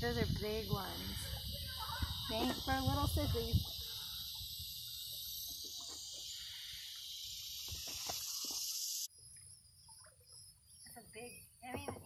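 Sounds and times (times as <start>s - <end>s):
insects shrilling in trees: 0.0s - 11.9s.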